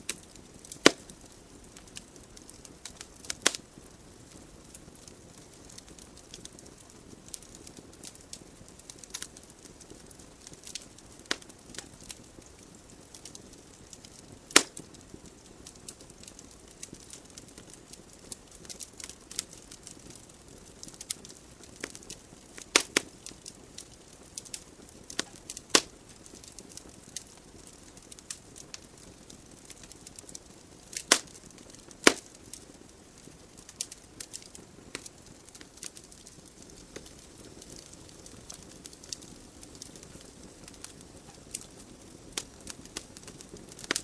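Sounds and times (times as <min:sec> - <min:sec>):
logs crackling and popping: 0:00.0 - 0:44.0.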